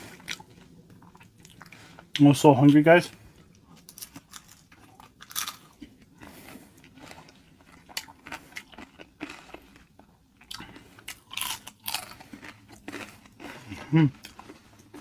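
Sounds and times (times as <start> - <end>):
crunchy taco chewing: 0.0 - 15.0.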